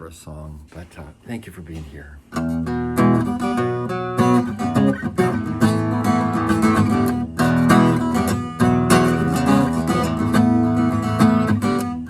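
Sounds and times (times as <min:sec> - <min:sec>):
acoustic guitar strumming: 0:02.3 - 0:12.0.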